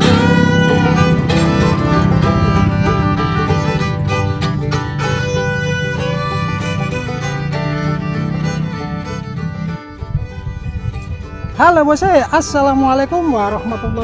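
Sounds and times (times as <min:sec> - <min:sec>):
bluegrass fiddle music: 0:00.0 - 0:14.0.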